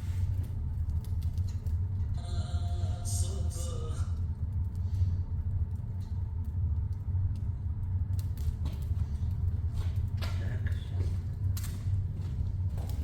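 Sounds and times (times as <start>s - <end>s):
fire crackling: 0.0s - 13.0s
fire draft rumbling: 0.0s - 13.0s.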